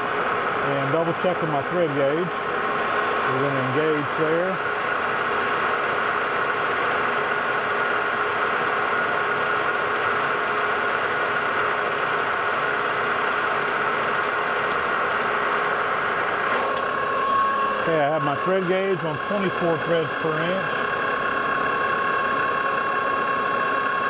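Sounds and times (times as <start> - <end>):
metal lathe gear whine: 0.0 - 24.0.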